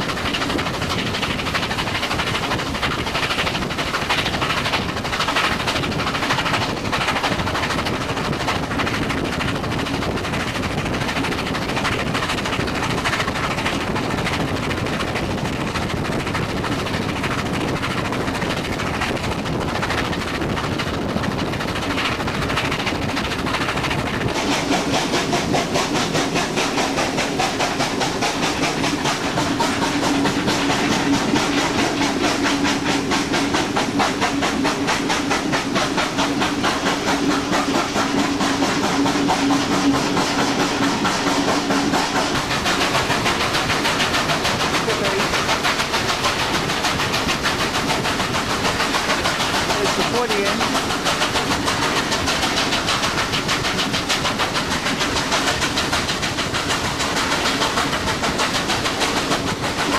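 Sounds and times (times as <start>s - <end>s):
steam train running: 0.0s - 59.9s
wheels on rails: 0.0s - 59.9s.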